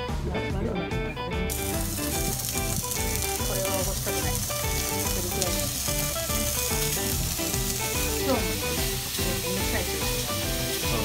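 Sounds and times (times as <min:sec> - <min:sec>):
background music: 0:00.0 - 0:11.0
pork sizzling in frying pan: 0:01.5 - 0:11.0.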